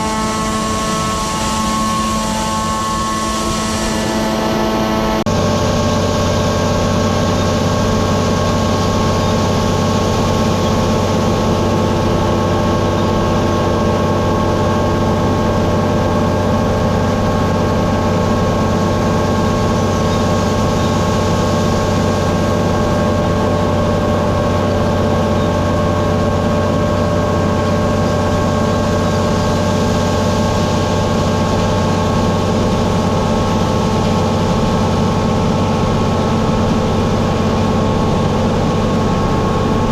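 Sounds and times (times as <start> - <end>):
heavy farm machinery humming: 0.0 - 39.9.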